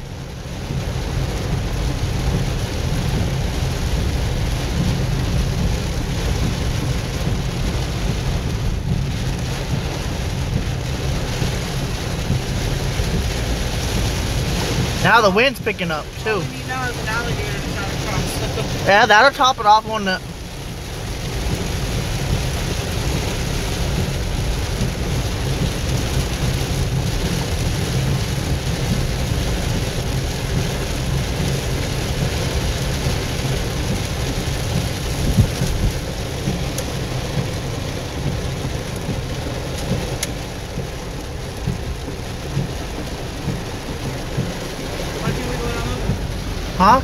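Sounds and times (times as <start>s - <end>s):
heavy rain on car roof: 0.0s - 47.0s.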